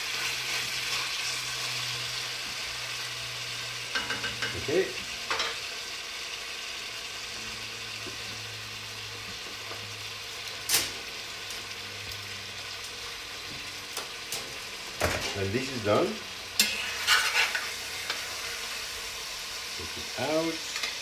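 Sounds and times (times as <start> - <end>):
beef sizzling in pot: 0.0 - 21.0.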